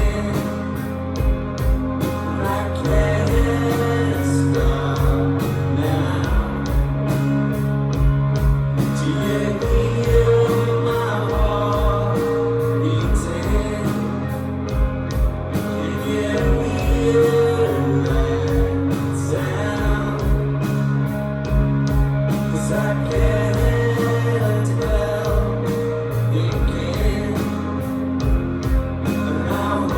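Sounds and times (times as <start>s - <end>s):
person singing: 0.0s - 7.4s, 8.8s - 21.1s, 22.2s - 29.9s
bass drum beat: 0.0s - 29.9s
rock band playing live: 0.0s - 29.9s.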